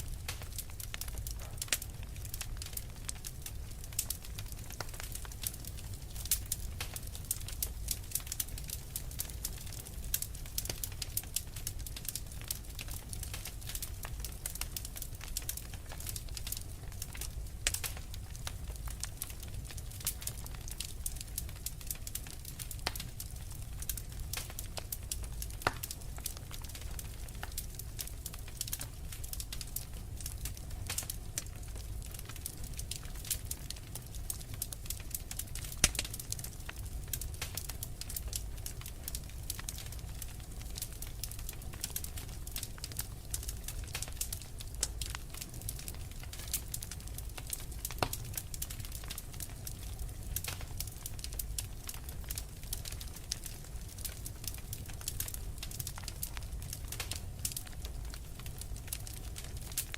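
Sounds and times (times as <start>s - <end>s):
fire crackling and popping: 0.0s - 59.9s
low rumble of burning: 0.0s - 59.9s.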